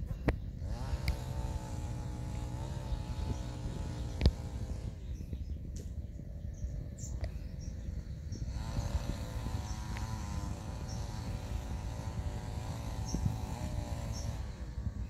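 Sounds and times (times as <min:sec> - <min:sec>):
small engine running: 0:00.0 - 0:05.6, 0:06.2 - 0:15.0.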